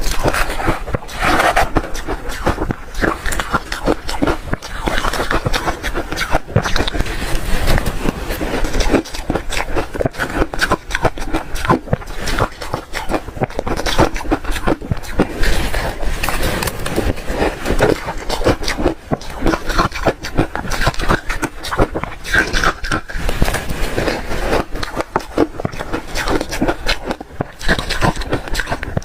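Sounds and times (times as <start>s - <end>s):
ice being chewed: 0.0s - 29.0s.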